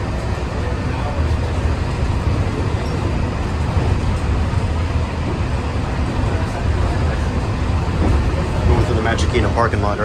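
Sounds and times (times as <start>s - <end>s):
monorail cabin rumble: 0.0s - 10.0s.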